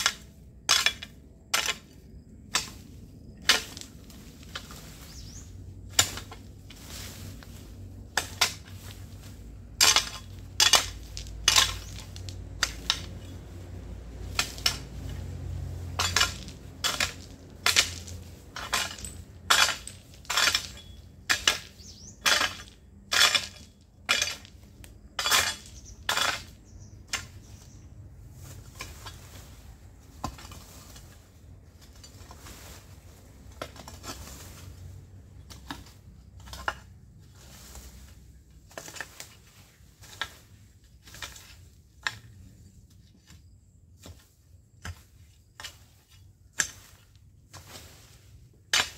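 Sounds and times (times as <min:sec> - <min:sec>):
hand tool chopping into ground: 0:00.0 - 0:13.6, 0:14.2 - 0:34.8, 0:35.4 - 0:48.9.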